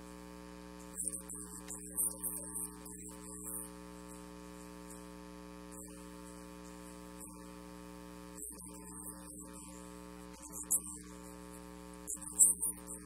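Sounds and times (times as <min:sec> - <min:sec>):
buzzy mains hum: 0:00.0 - 0:13.0.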